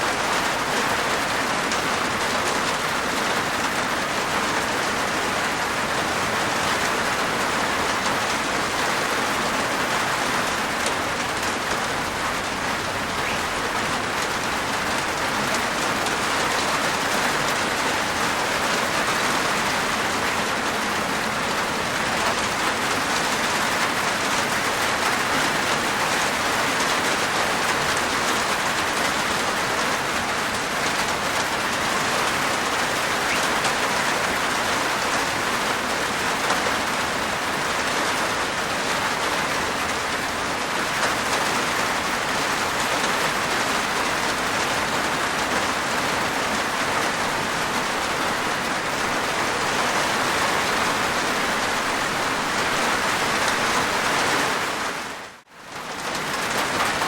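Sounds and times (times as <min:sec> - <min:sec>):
rain on a rooftop: 0:00.0 - 0:57.0.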